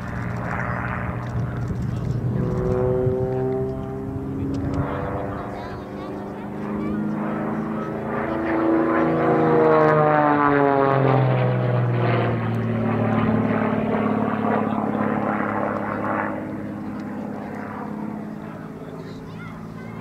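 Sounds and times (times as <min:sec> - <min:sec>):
propeller plane engine running: 0:00.0 - 0:20.0.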